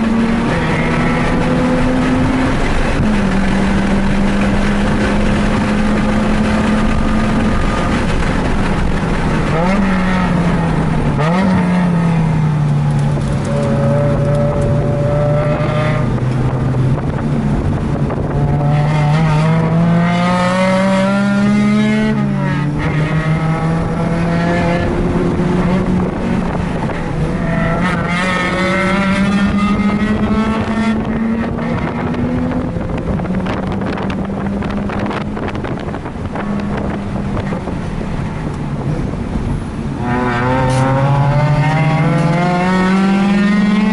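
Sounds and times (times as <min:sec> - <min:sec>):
rotary car engine accelerating: 0:00.0 - 0:43.9
wind buffeting microphone: 0:00.0 - 0:43.9.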